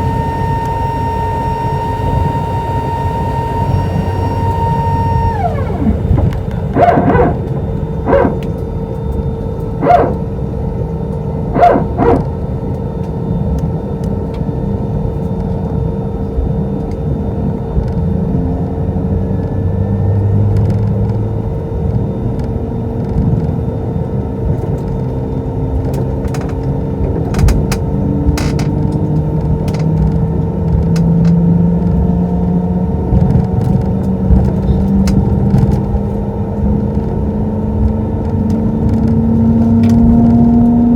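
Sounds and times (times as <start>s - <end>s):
aircraft engine hum: 0.0s - 40.9s.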